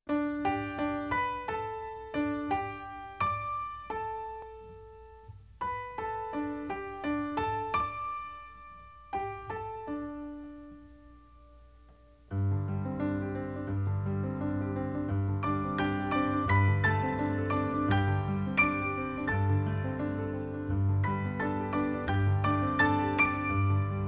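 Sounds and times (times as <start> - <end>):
slow solo piano music: 0.1 - 24.0.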